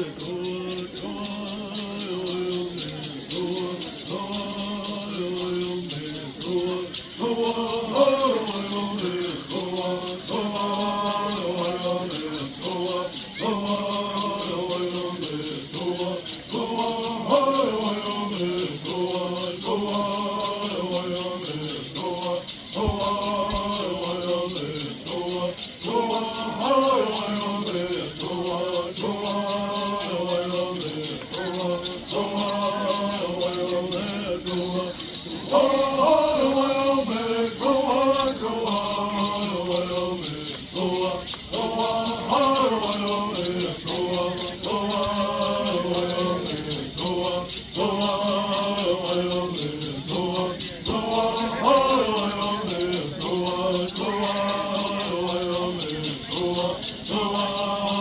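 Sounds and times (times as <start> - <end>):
gourd rattles shaken: 0.0 - 58.0
people chanting in unison: 0.0 - 58.0.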